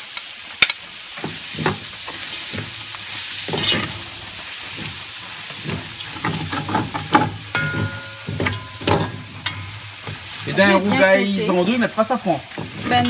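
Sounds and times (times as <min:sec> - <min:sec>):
food sizzling in a metal pot: 0:00.0 - 0:13.0
stirring scrapes and knocks: 0:01.1 - 0:13.0.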